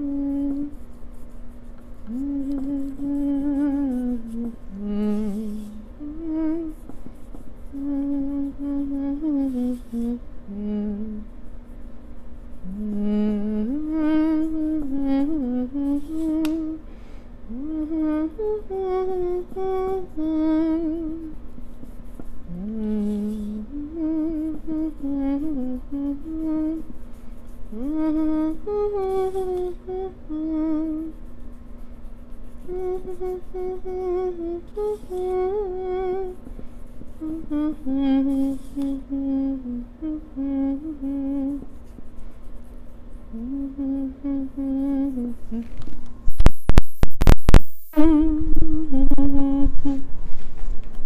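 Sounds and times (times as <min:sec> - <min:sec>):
person humming: 0:00.0 - 0:01.3, 0:02.0 - 0:11.4, 0:12.5 - 0:21.4, 0:22.4 - 0:27.0, 0:27.7 - 0:31.4, 0:32.5 - 0:41.9, 0:43.1 - 0:50.1.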